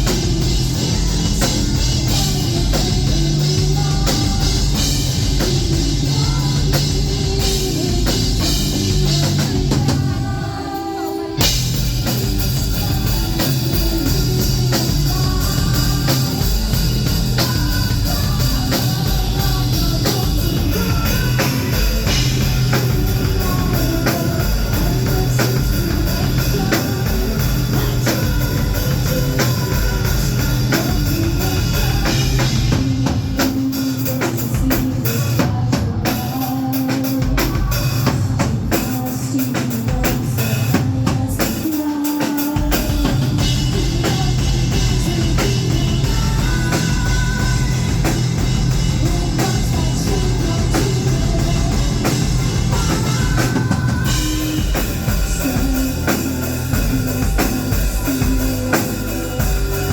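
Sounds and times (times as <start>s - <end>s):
bass drum: 0.0s - 10.2s, 11.4s - 33.6s, 42.8s - 59.9s
live metal band playing: 0.0s - 59.9s.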